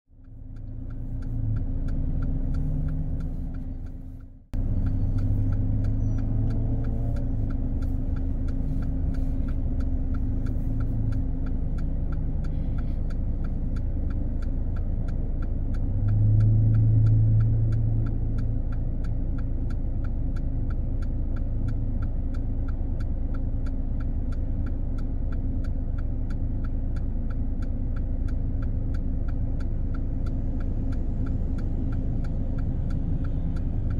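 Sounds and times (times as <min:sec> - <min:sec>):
car engine idling: 0:00.1 - 0:33.9
turn indicator relay ticking: 0:00.1 - 0:33.9.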